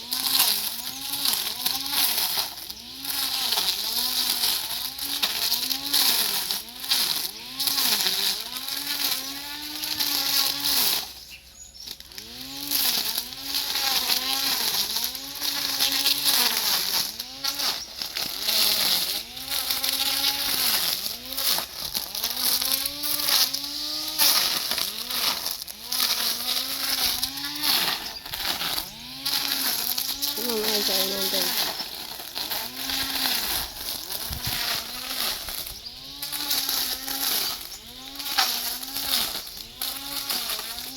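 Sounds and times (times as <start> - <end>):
lawn mower cutting grass: 0.0 - 40.9.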